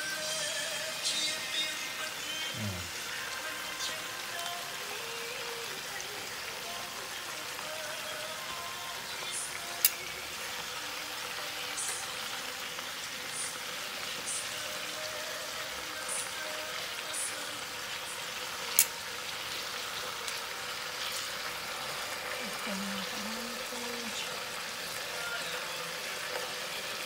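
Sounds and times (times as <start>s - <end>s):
meat frying in oil: 0.0s - 27.0s.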